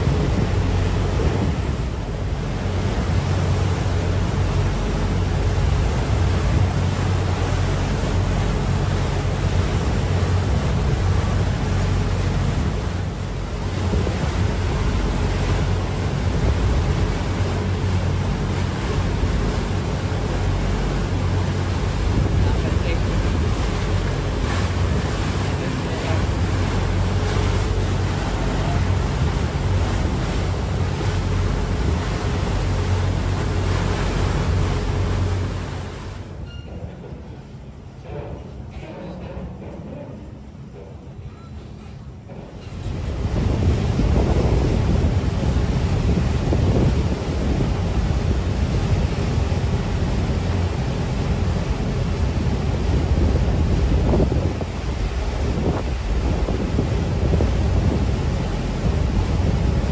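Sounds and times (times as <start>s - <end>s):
wind buffeting microphone: 0.0s - 36.1s, 42.7s - 59.9s
boat engine drone: 0.0s - 59.9s
churning wake rushing: 0.0s - 59.9s.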